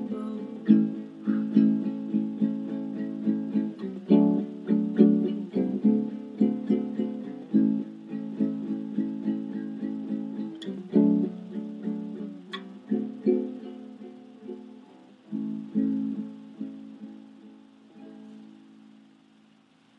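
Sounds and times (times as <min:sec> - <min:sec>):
soft guitar plucked chords: 0:00.0 - 0:19.6.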